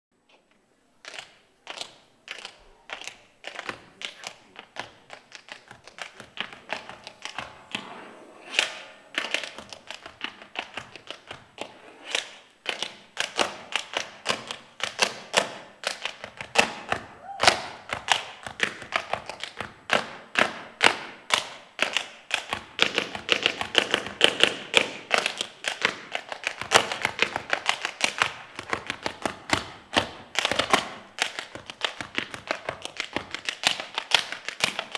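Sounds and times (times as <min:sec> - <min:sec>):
tap shoes on stage floor: 0:01.0 - 0:07.6, 0:09.2 - 0:34.9.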